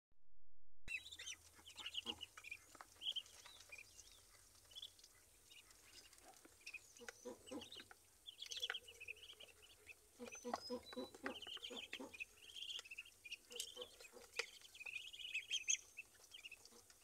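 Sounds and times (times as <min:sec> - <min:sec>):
ducklings peeping: 0:00.9 - 0:17.0.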